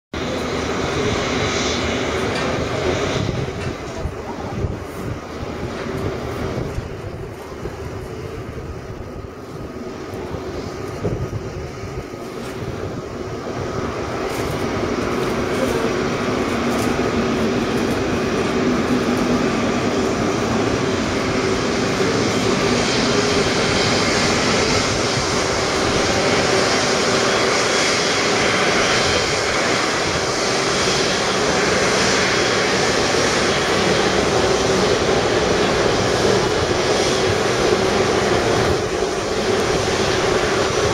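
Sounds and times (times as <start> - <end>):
jet engines at taxi power: 0.1 - 40.9.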